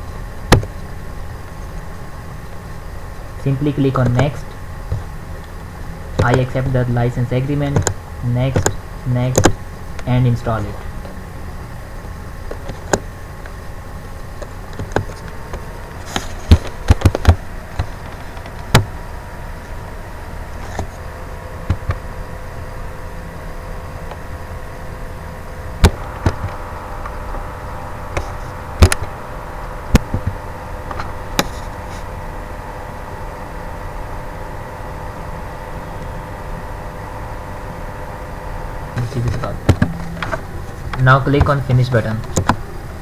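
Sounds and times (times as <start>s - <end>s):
background hum: 0.0s - 43.0s
faint whine: 0.0s - 43.0s.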